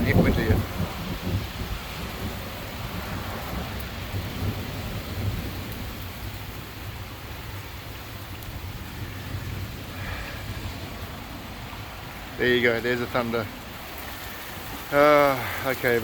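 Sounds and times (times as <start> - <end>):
rolling thunder rumble: 0.0 - 15.6
heavy rain falling: 0.0 - 16.0.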